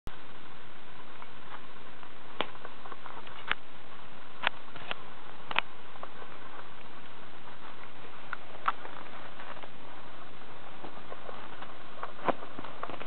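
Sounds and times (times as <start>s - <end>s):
steady hiss: 0.1s - 13.0s.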